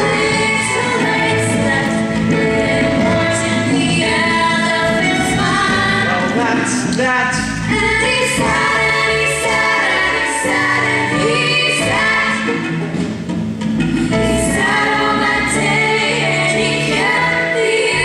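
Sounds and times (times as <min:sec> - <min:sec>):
chorus singing: 0:00.0 - 0:13.0, 0:14.0 - 0:18.0
instrumental accompaniment: 0:00.0 - 0:18.0.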